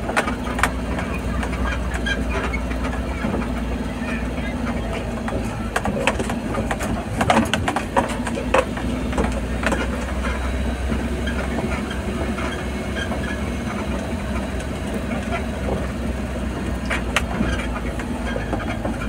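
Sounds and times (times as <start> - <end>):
knocks and rattles: 0.0 - 19.0
vehicle engine running: 0.0 - 19.0.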